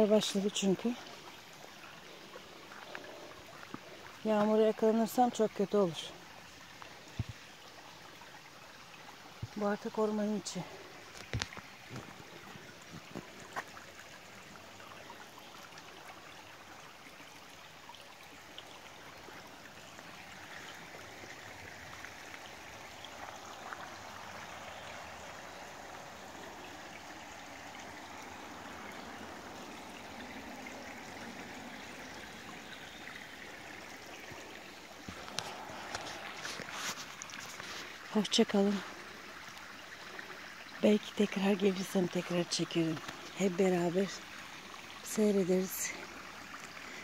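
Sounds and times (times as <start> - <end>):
rush of water: 0.0 - 47.0.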